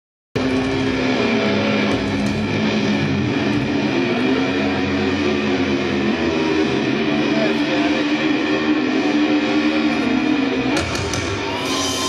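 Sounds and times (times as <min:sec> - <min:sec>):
thrash metal band playing: 0:00.4 - 0:12.0.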